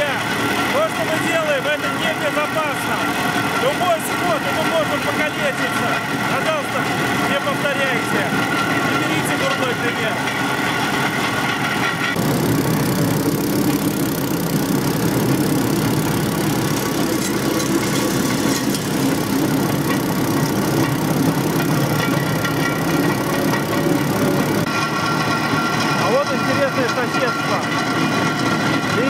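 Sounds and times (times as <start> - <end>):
rail cart engine: 0.0 - 29.0
wheels rumbling on rails: 0.0 - 29.0.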